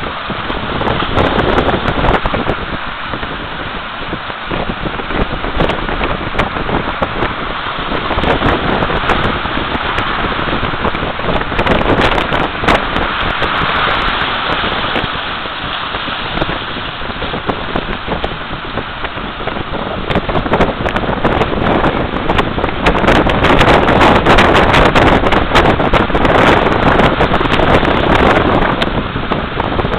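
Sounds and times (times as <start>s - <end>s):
surf breaking against rocks: 0.0s - 29.9s
wind buffeting microphone: 0.0s - 29.9s.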